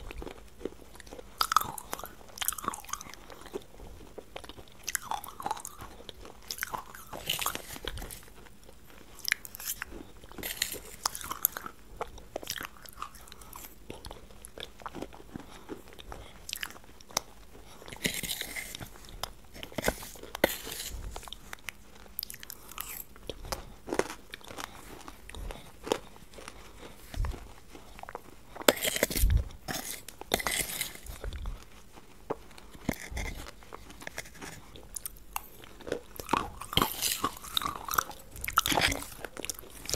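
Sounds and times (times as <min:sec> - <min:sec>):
wet chewing and lip smacks: 0:00.0 - 0:39.9.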